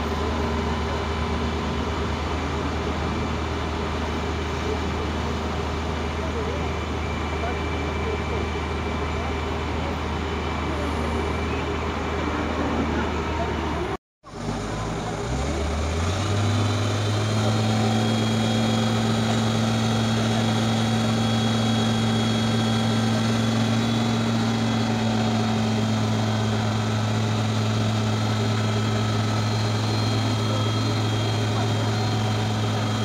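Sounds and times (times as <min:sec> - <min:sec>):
crane diesel engine revving: 0:00.0 - 0:33.0.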